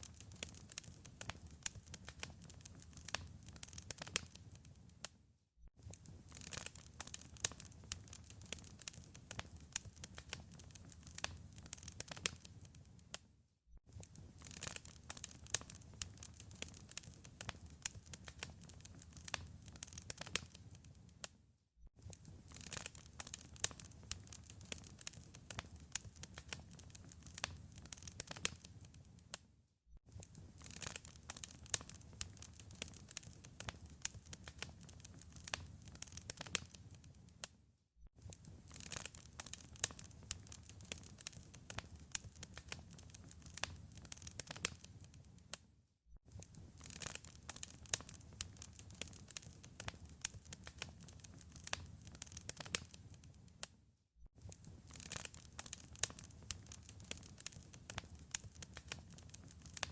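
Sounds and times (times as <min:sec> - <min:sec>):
wood fire crackling and popping: 0:00.0 - 0:05.1, 0:05.8 - 0:13.2, 0:13.9 - 0:21.3, 0:22.0 - 0:29.4, 0:30.1 - 0:37.5, 0:38.2 - 0:45.6, 0:46.3 - 0:53.7, 0:54.4 - 0:59.9.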